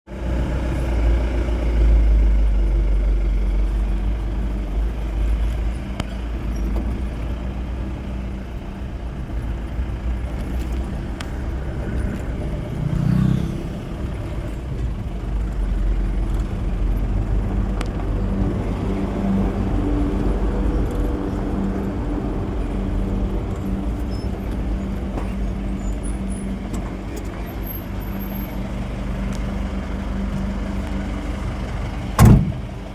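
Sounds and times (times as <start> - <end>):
vehicle engine rumbling: 0.1 - 32.9.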